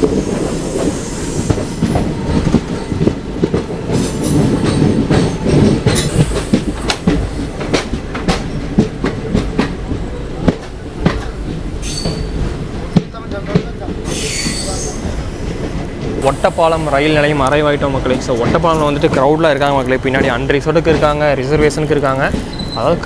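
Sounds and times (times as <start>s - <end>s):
train wheel and coach rumble: 0.0s - 23.0s
wheels clacking over track: 0.0s - 23.0s.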